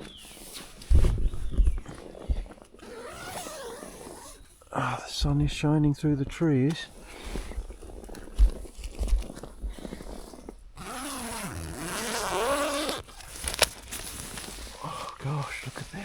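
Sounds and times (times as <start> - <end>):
tent zipper pulled open: 0.0 - 4.7, 6.9 - 16.0
rustling and handling bumps: 0.0 - 16.0.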